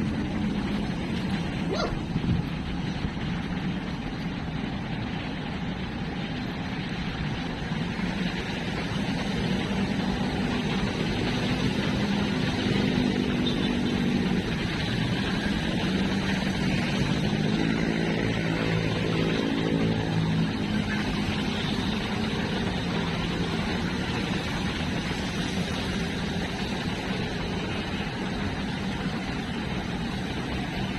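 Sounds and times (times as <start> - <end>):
motor vehicle engine hum: 0.0 - 30.9.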